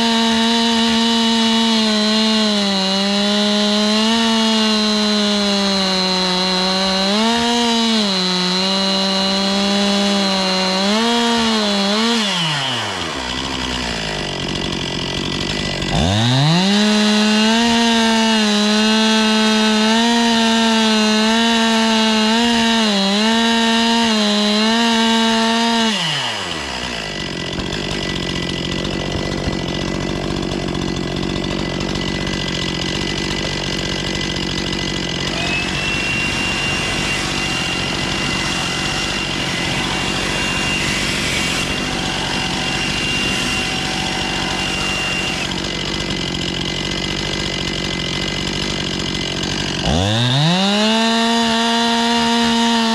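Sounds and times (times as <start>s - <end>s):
chainsaw cutting wood: 0.0s - 52.9s
chainsaw idling: 0.0s - 52.9s.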